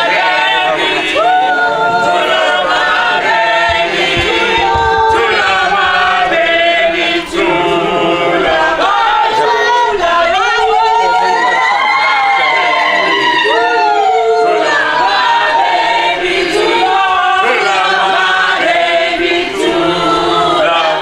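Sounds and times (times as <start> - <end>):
women singing in chorus: 0.0 - 21.0.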